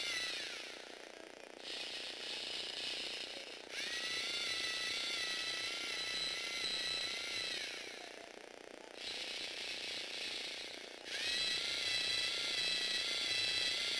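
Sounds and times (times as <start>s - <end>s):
motor gear whine: 0.0s - 13.9s
motor whir: 0.0s - 13.9s.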